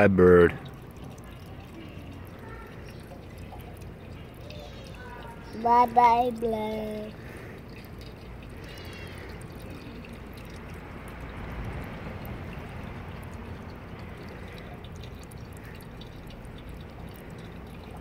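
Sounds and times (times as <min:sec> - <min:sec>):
fountain water splashing into basin: 0:00.0 - 0:18.0.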